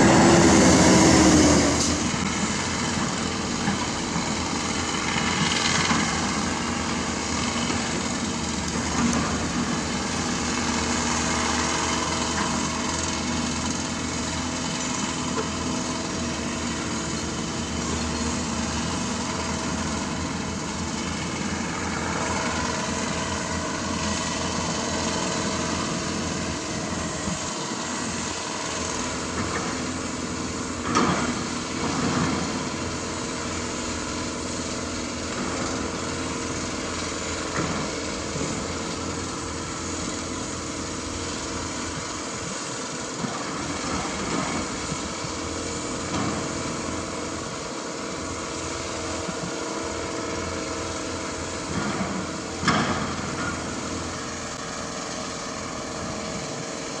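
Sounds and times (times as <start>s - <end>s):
excavator diesel engines running: 0.0s - 57.0s.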